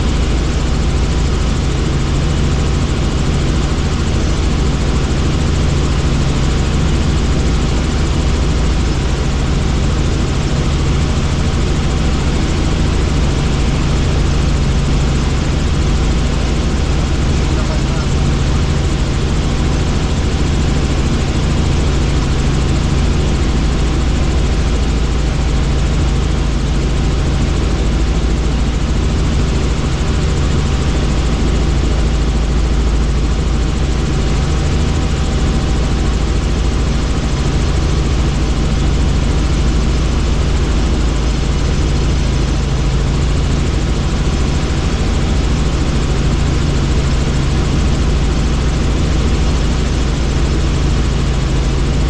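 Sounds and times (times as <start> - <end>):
helicopter drone: 0.0 - 52.0.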